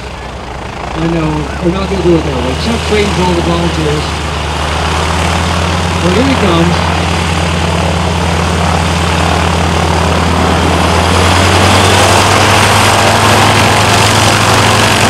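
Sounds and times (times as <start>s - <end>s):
biplane engine droning: 0.0s - 15.0s.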